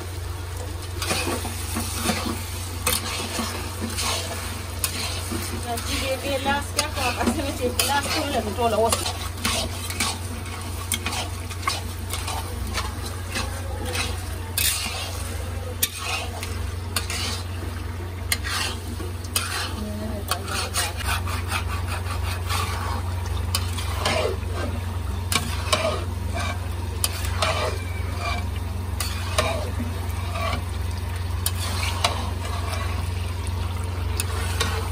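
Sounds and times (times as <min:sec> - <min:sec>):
mixture sizzling in fat: 0:00.0 - 0:34.9
spatula scraping a wok: 0:01.0 - 0:34.9.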